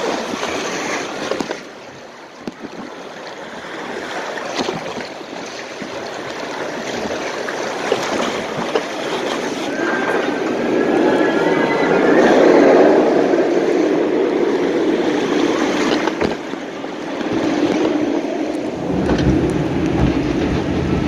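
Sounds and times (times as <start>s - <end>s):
small water splashes: 0.0s - 21.0s
water rushing and splashing: 0.0s - 21.0s.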